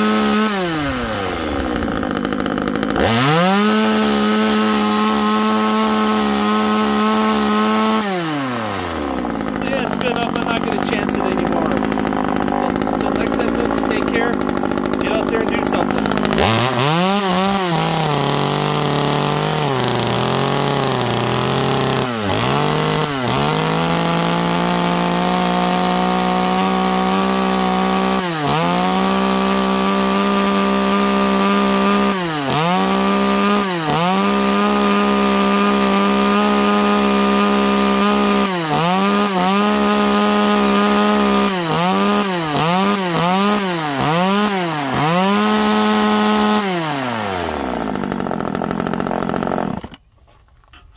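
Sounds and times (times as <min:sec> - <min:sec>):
chainsaw engine revving: 0:00.0 - 0:50.1.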